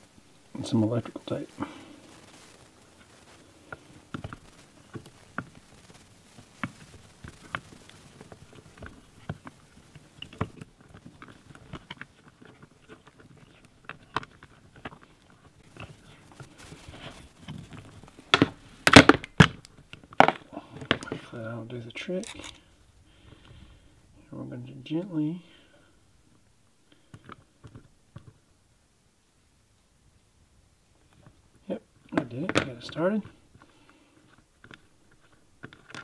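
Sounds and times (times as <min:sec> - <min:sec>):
small crackles and clicks: 0:00.0 - 0:23.9, 0:24.9 - 0:28.5, 0:30.9 - 0:36.0.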